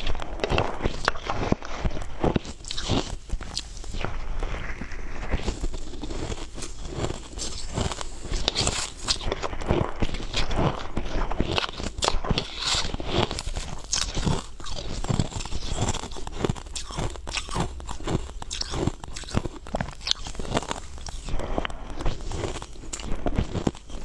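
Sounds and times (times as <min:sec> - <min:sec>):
crunching and chewing icy food: 0:00.0 - 0:24.0.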